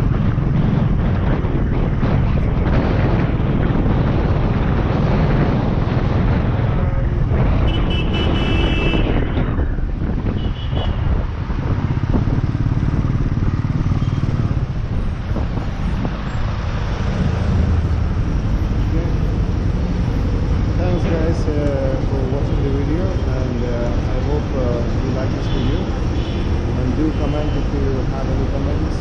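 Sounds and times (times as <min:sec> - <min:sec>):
wind buffeting microphone: 0:00.0 - 0:25.3
motorcycle engine: 0:00.0 - 0:28.8
surrounding traffic: 0:00.0 - 0:29.0.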